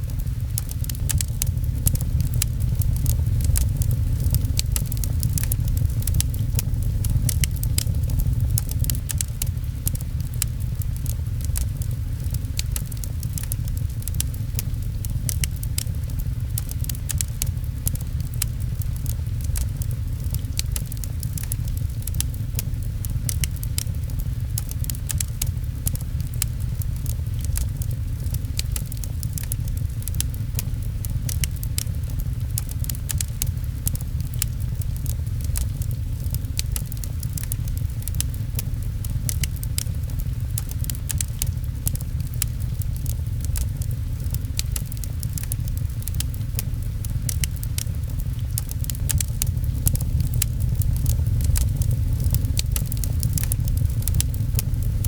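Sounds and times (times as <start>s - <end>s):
deep steady rumble: 0.0s - 55.0s
rain pattering on a window: 0.0s - 55.0s
wood fire crackling: 0.0s - 55.0s.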